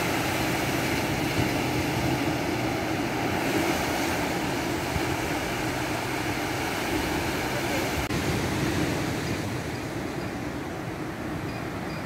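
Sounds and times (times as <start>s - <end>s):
small waves breaking on a beach: 0.0s - 12.0s.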